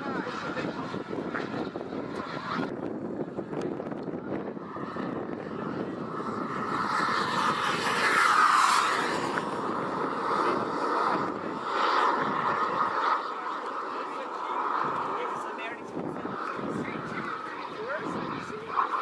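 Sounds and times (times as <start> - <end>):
model jet turbine whining: 0.0 - 19.0.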